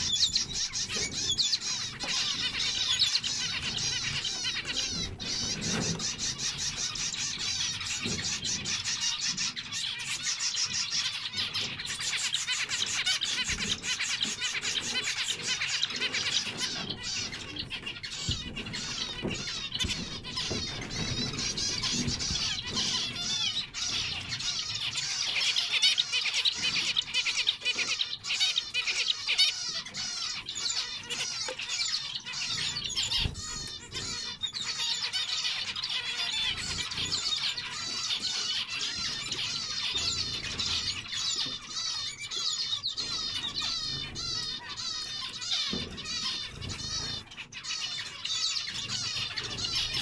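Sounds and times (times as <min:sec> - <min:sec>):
finches calling and singing: 0:00.0 - 0:50.0.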